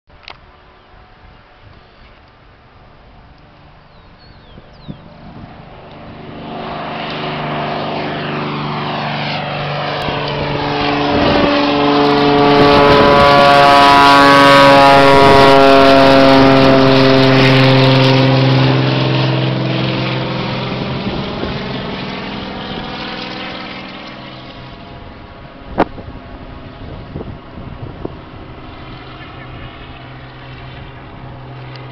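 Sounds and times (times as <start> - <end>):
propeller plane flying overhead: 0.1 - 31.9.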